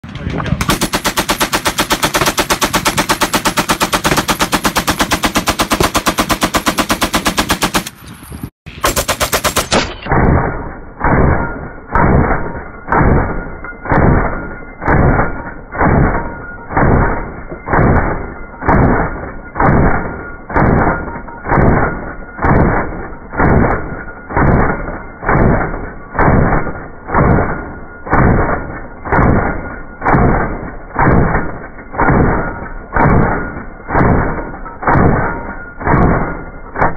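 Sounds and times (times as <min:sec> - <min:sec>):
slowed gunshots as deep booms: 0:00.6 - 0:07.9, 0:08.7 - 0:36.9
machine gun firing: 0:00.6 - 0:08.0, 0:08.7 - 0:36.9.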